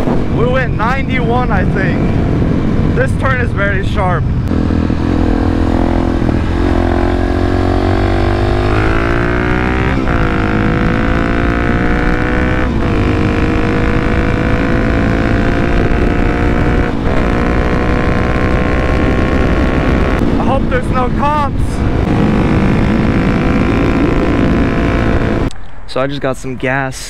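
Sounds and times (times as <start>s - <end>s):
motorcycle engine accelerating: 0.0s - 25.5s.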